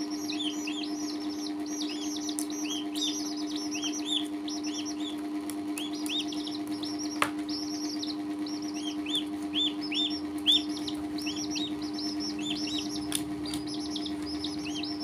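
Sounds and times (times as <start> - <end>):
chicks and duckling peeping: 0.0 - 15.0
steady low hum: 0.0 - 15.0.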